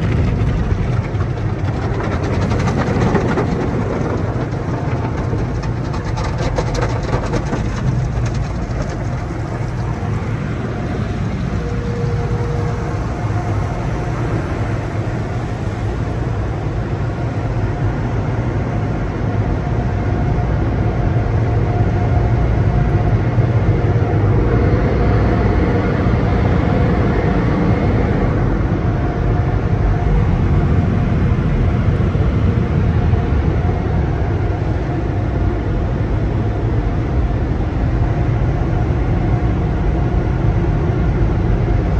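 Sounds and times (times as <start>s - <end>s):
machinery rumble: 0.0s - 41.9s.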